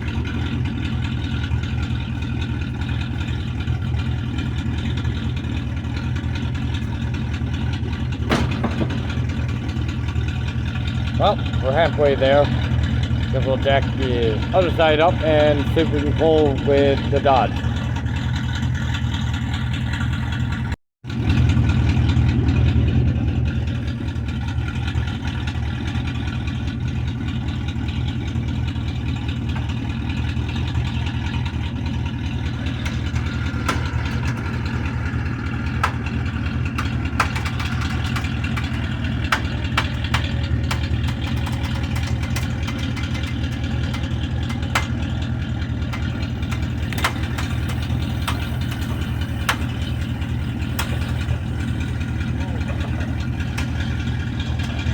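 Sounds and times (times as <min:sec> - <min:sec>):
vehicle engine idling: 0:00.0 - 0:54.9.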